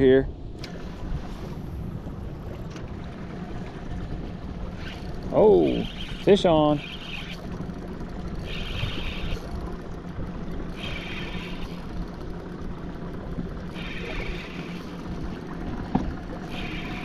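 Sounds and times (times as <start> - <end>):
low steady hum: 0.0 - 17.0
wind and water noise: 0.0 - 17.0
fishing reel whirring: 3.3 - 17.0.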